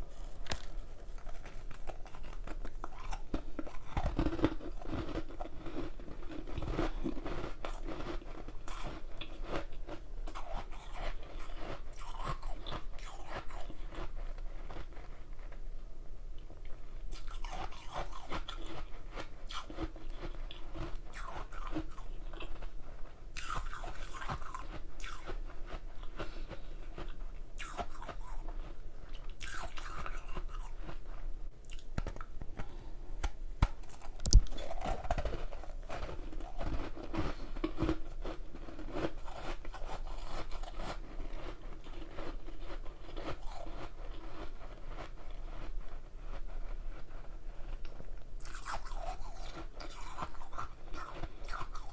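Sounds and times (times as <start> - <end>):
person chewing ice: 0.0 - 15.6, 17.1 - 51.9.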